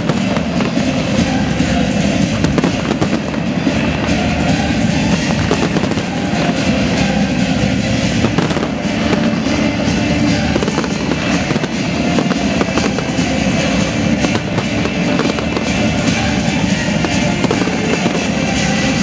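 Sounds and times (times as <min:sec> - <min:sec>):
fireworks bursting and crackling: 0:00.0 - 0:19.0
low rumble: 0:00.0 - 0:19.0.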